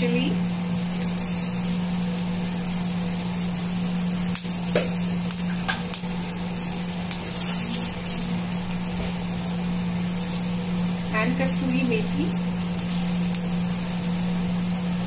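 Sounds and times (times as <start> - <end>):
butter sizzling in a frying pan: 0.0 - 15.0
steady low hum: 0.0 - 15.0.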